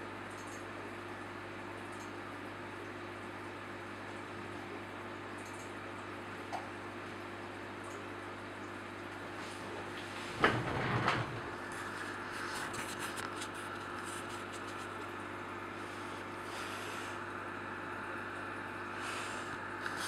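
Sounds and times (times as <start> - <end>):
aquarium hum and hiss: 0.0 - 20.0.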